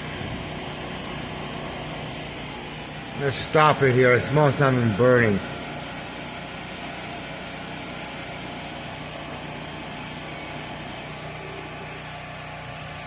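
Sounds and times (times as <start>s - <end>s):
dryer humming: 0.0s - 13.0s.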